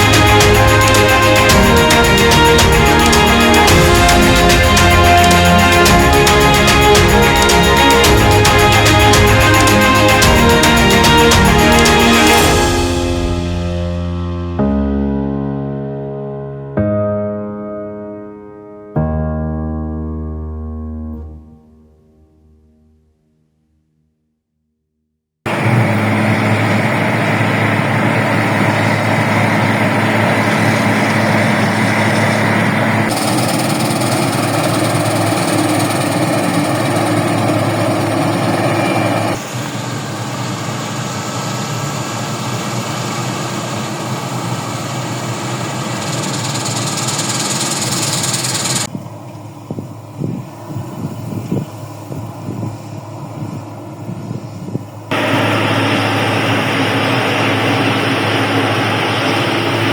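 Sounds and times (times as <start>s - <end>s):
harvest machinery engines running: 0.0s - 13.6s, 25.5s - 59.9s.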